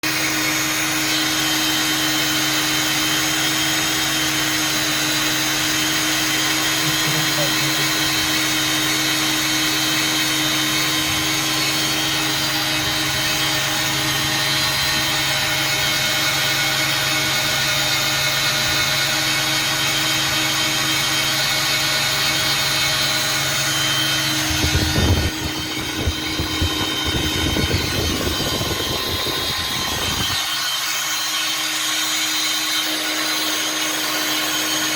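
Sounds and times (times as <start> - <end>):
construction machinery drone: 0.0 - 34.9.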